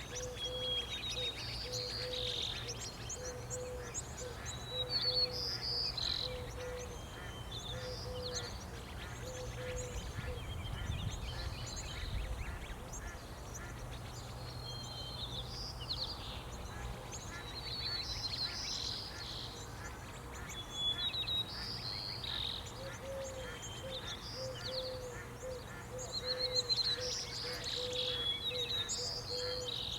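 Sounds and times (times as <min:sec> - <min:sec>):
songbirds chirping and trilling: 0:00.0 - 0:29.9.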